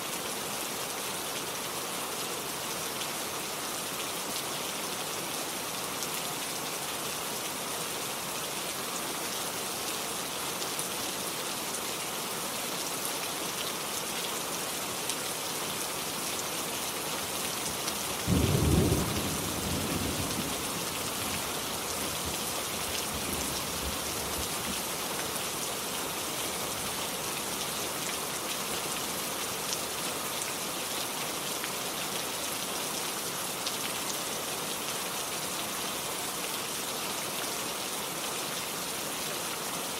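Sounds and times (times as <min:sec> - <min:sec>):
rain hissing and pattering: 0:00.1 - 0:39.9.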